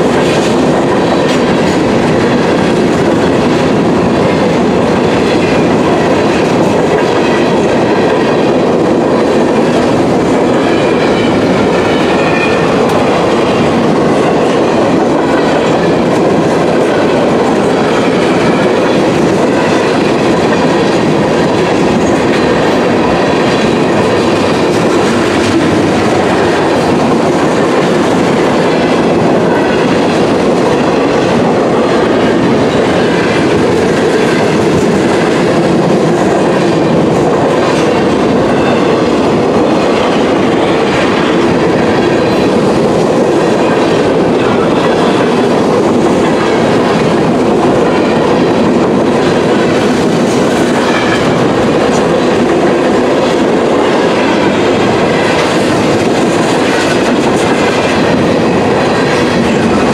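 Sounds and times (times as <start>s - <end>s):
steel wheels running on rails: 0.0s - 59.9s.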